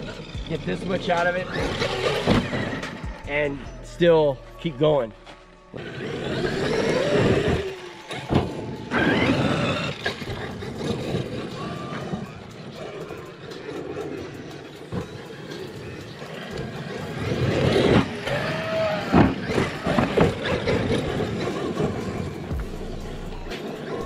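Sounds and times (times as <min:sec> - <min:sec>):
tyres churning dirt and gravel: 0:00.0 - 0:03.6, 0:05.2 - 0:24.0
electric motor whining: 0:00.0 - 0:03.7, 0:05.7 - 0:24.0.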